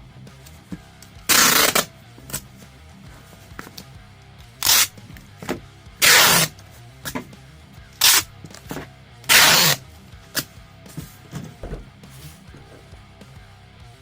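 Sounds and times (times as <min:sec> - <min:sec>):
quiet background music: 0:00.1 - 0:14.0.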